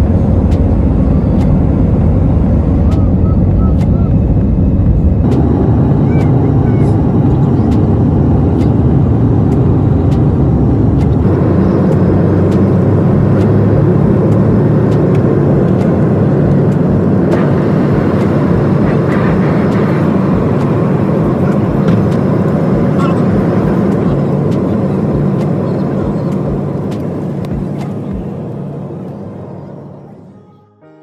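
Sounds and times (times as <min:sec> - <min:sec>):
jet engines rumbling in cabin: 0:00.0 - 0:30.4
wheels ticking over runway: 0:00.0 - 0:30.5.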